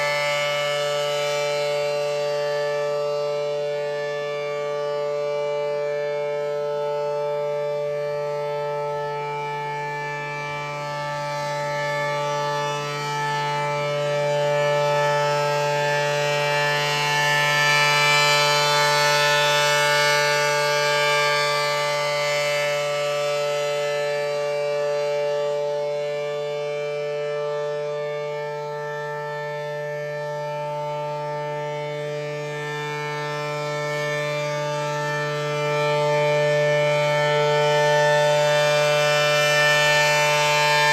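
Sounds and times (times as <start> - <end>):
tornado siren steady tone: 0.0 - 40.9.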